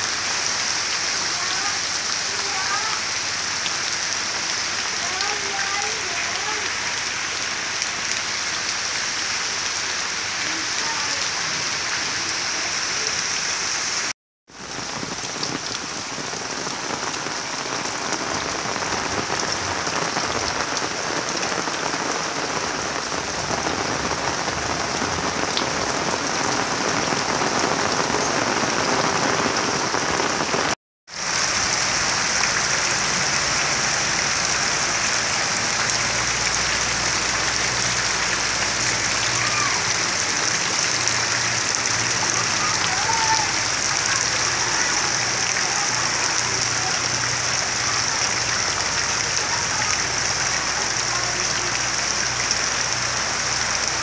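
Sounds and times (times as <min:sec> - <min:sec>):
heavy rain on standing water: 0:00.0 - 0:54.0.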